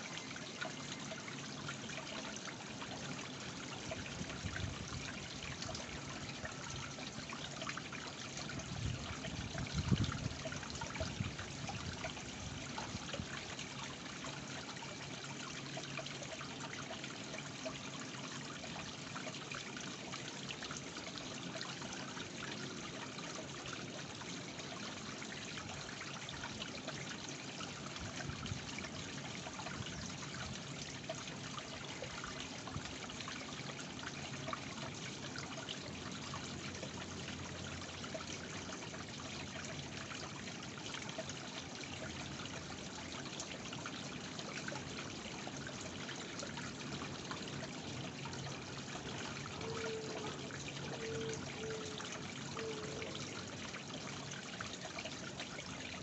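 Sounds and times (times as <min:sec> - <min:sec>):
waterfall splashing into pond: 0:00.0 - 0:56.0.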